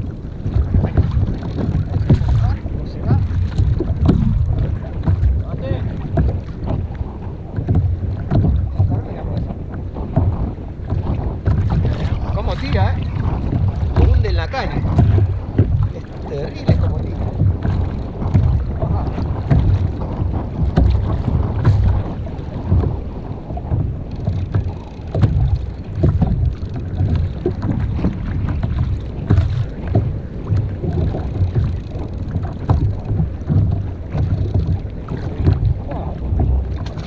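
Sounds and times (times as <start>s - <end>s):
water slapping against hull: 0.0s - 37.0s
wind buffeting microphone: 0.0s - 37.0s.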